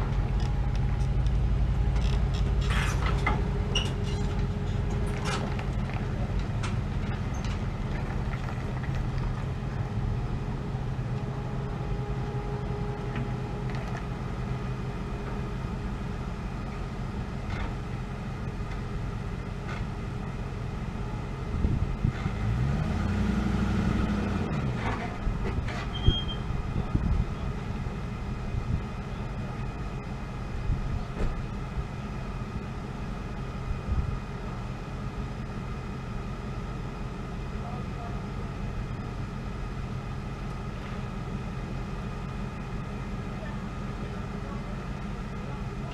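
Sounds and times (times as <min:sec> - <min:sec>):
vehicle engine humming: 0:00.0 - 0:45.9.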